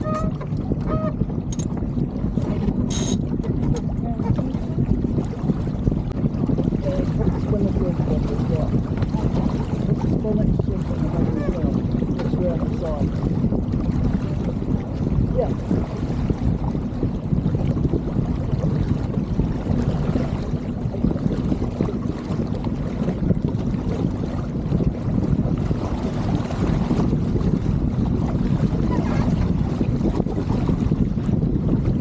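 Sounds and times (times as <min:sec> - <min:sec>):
water rushing along hull: 0:00.0 - 0:32.0
wind buffeting microphone: 0:00.0 - 0:32.0.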